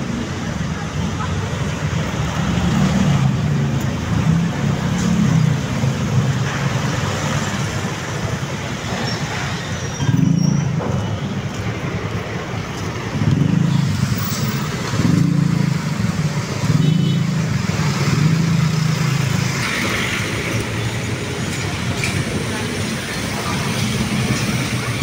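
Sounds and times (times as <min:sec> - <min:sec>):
slow city traffic: 0:00.0 - 0:25.0.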